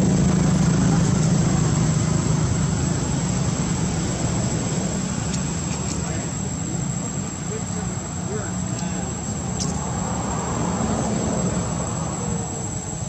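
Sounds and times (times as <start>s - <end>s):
motor vehicle engine drone: 0.0s - 13.0s.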